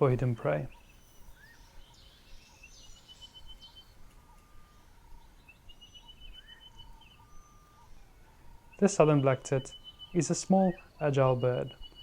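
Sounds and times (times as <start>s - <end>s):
rising bird chirps: 0.0s - 12.0s
thin bird whistles: 0.7s - 12.0s.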